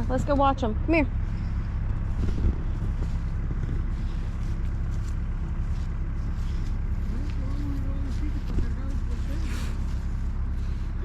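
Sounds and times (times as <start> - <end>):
diesel engine of heavy machinery: 0.0 - 11.0.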